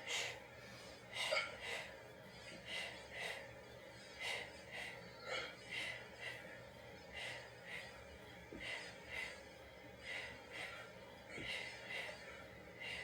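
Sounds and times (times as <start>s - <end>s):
woman breathing: 0.0s - 13.0s.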